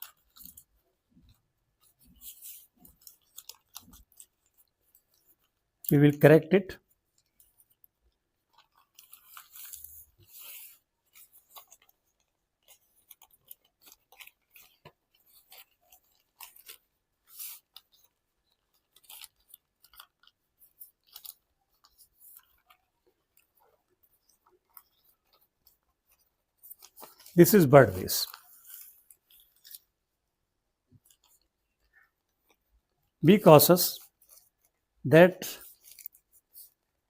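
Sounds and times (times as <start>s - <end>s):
paper rustling and crackling: 0.0s - 5.6s, 7.0s - 30.0s, 34.0s - 34.8s, 35.6s - 37.0s.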